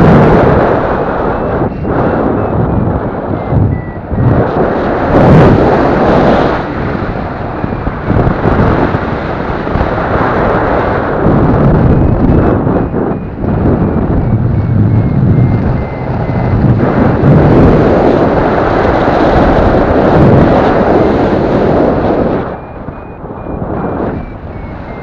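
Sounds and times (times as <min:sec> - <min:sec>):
wind rushing over microphone: 0:00.0 - 0:25.0
faint variometer beeps: 0:00.5 - 0:09.1, 0:11.4 - 0:25.0.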